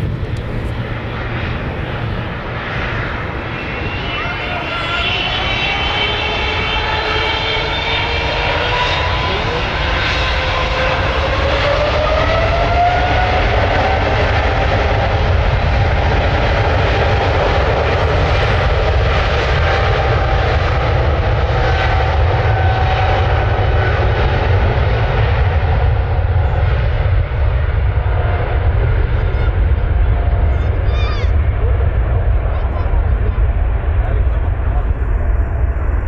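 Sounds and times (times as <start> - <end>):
jet engines spooling up: 0.0 - 36.0.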